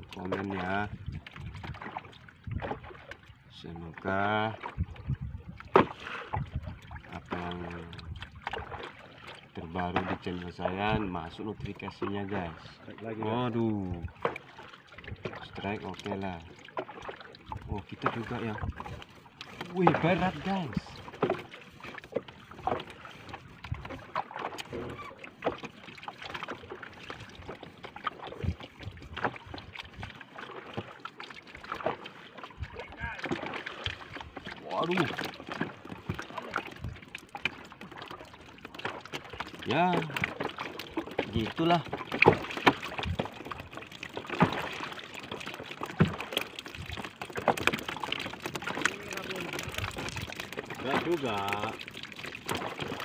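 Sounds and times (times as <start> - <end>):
knocks and bumps on boat: 0.0 - 3.0, 4.0 - 31.0, 31.6 - 51.8
water lapping against hull: 0.0 - 53.0.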